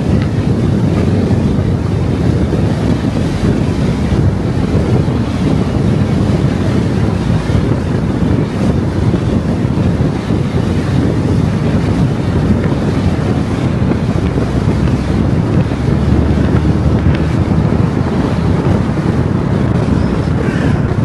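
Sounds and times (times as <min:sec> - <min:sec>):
car driving at road speed: 0:00.0 - 0:21.0.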